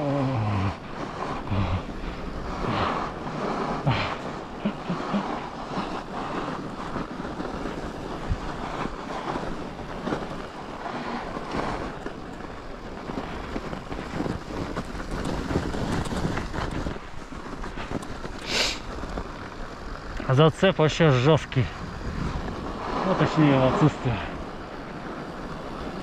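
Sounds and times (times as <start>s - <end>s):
bike rolling over snow: 0.0s - 26.0s
wind buffeting microphone: 0.0s - 26.0s.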